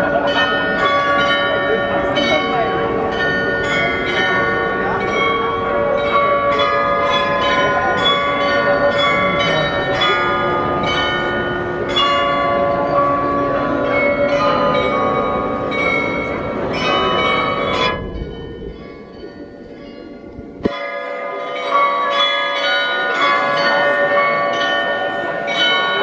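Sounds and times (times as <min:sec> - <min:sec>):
glockenspiel bells playing a tune: 0:00.0 - 0:26.0.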